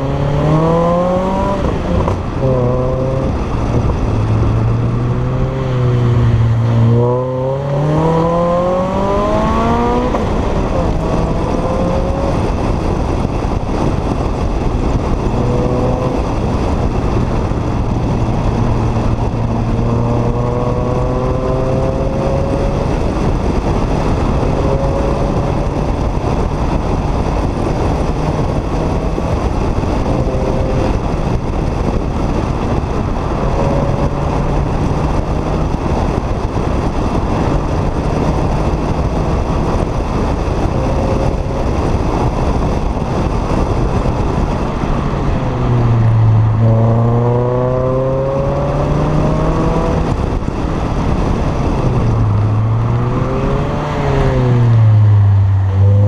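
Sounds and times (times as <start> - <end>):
car engine accelerating: 0.0 - 56.0
road noise rushing: 0.0 - 56.0.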